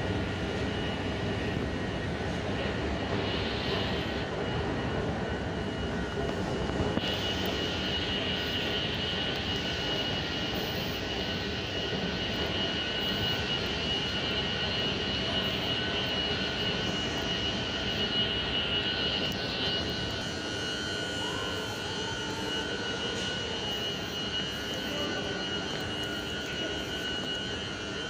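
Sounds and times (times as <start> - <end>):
high whine: 0.0 - 28.0
metro station rumble: 0.0 - 28.0.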